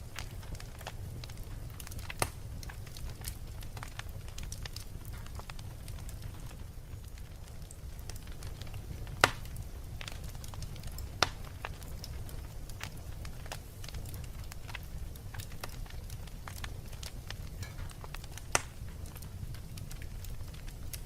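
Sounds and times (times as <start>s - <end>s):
sharp pops of fire: 0.0s - 21.0s
wood fire crackling: 0.0s - 21.0s.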